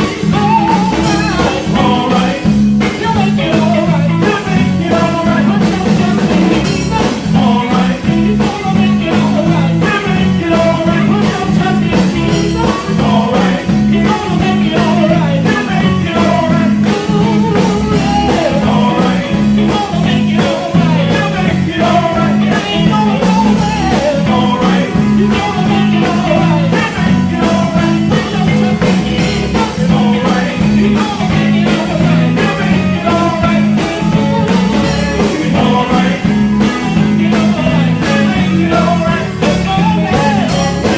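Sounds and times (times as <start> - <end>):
gospel group singing: 0.0 - 40.9
live band playing: 0.0 - 40.9.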